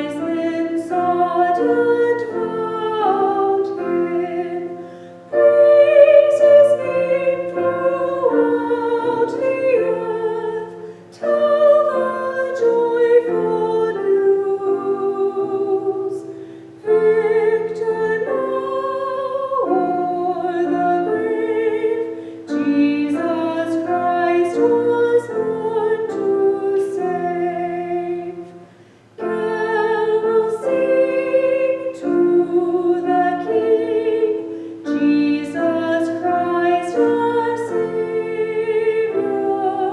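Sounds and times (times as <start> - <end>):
person singing with vibrato: 0.0 - 39.9
piano accompaniment: 0.0 - 39.9.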